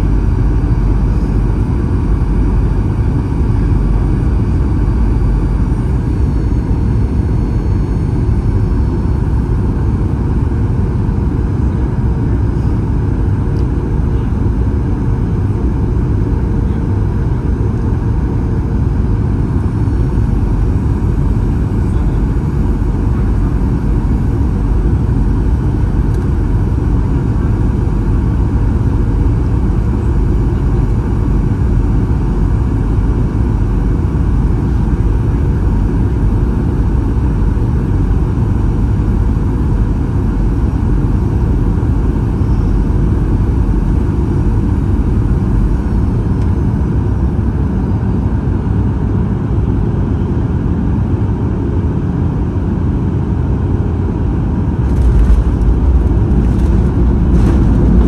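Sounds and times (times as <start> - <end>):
jet engines humming: 0.0 - 49.8, 52.8 - 58.0
faint steady whine: 0.0 - 58.0.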